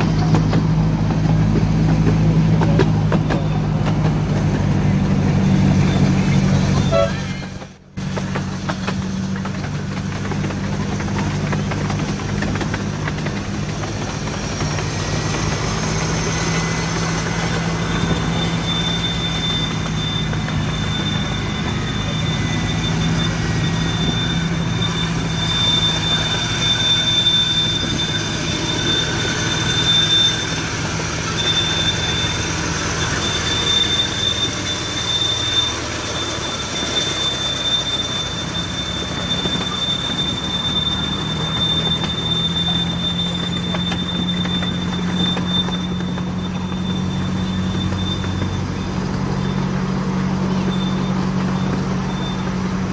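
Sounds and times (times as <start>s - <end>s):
miniature train engine hum: 0.0s - 52.9s
wheel and rail noise: 0.0s - 52.9s
thin high squeal: 5.2s - 7.8s, 12.0s - 52.9s.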